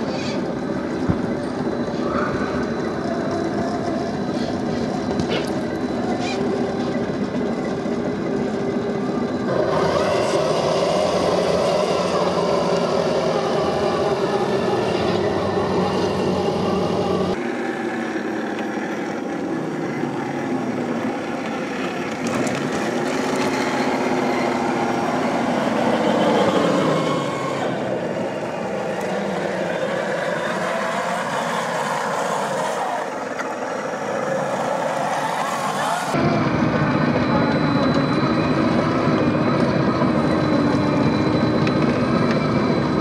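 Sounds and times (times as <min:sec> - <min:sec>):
toy electric motors whining: 0:01.4 - 0:36.2.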